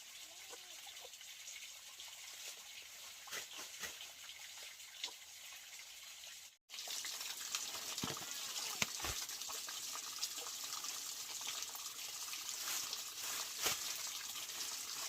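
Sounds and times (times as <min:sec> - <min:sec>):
running water hissing: 0:00.0 - 0:15.0.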